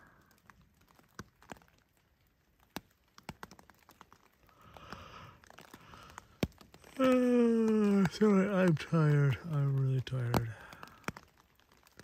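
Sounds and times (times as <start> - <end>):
raindrops tapping on tarp: 0.0 - 12.0.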